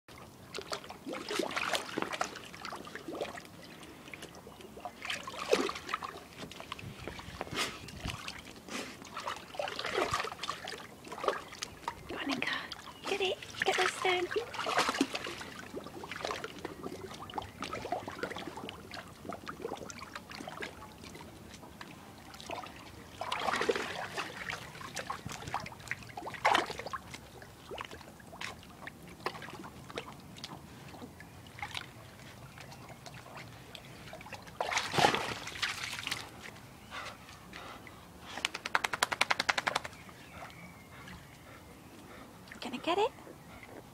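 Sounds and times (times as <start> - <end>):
dogs splashing in water: 0.2 - 37.0, 37.6 - 41.5.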